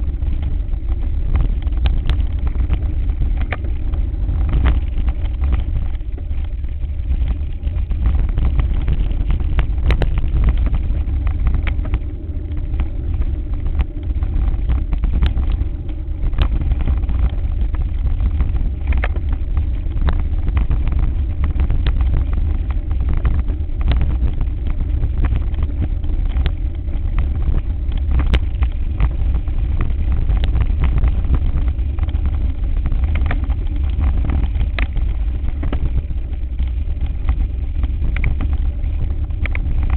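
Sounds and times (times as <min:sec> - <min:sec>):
wind rumble on camera: 0:00.0 - 0:39.9.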